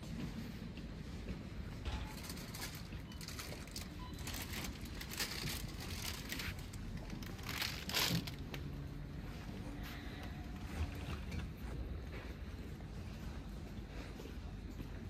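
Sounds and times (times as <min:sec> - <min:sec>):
rustling and crinkling: 0:00.1 - 0:14.9.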